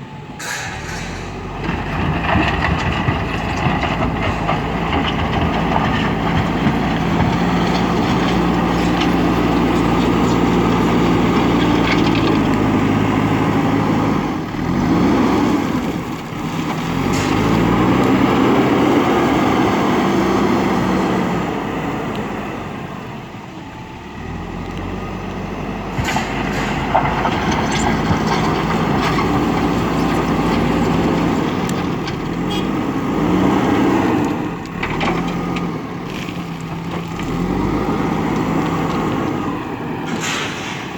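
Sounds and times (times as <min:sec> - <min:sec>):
diesel engine revving: 0:00.4 - 0:40.9.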